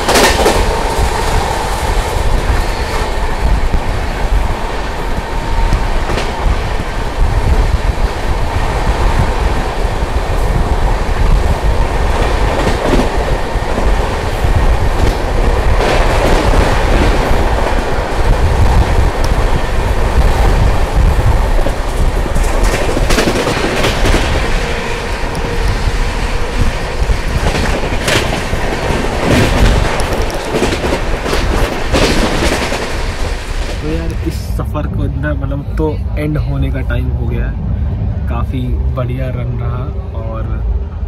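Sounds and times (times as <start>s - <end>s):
train rumbling at speed: 0.0s - 41.0s.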